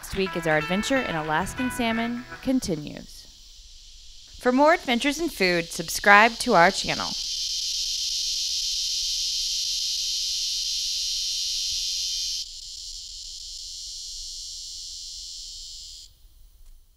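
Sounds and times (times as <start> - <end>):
insects chirring: 0.0 - 16.9.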